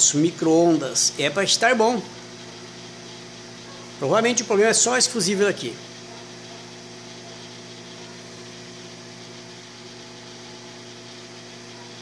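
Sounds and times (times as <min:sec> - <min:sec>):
cooling fan rushing: 0:00.0 - 0:12.0
microwave electrical hum: 0:00.0 - 0:12.0.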